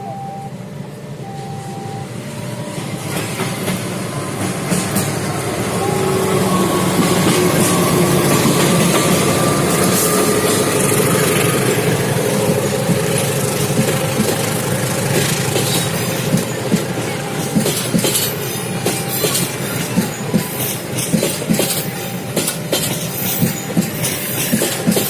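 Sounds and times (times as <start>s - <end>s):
train wheels rumbling on rail: 2.1s - 25.0s
rail joint clicks: 2.6s - 25.0s.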